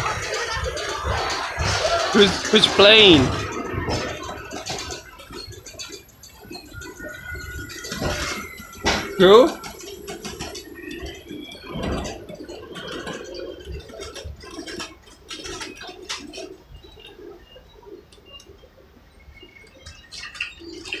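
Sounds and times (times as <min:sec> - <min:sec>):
wooden railway coach rattling: 0:00.0 - 0:21.0.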